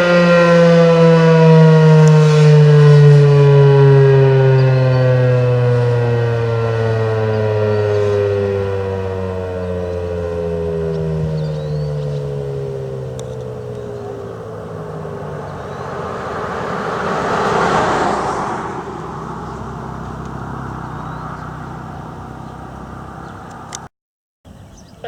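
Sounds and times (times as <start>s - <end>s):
siren winding down: 0.0s - 21.6s
car passing by: 0.0s - 23.9s.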